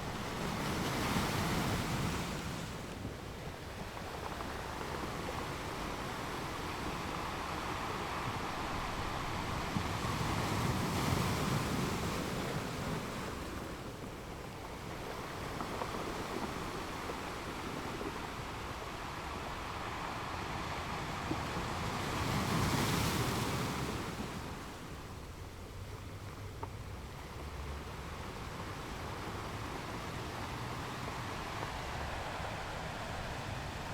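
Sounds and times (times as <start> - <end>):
sea waves washing: 0.0 - 33.9
wind on the microphone: 0.0 - 33.9.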